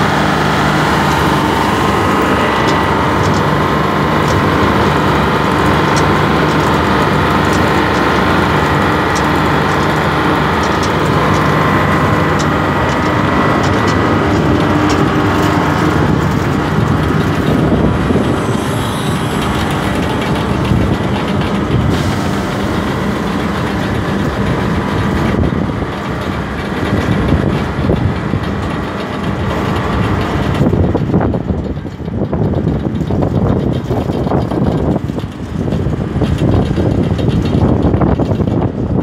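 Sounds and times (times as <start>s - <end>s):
drilling rig engine drone: 0.0s - 39.0s.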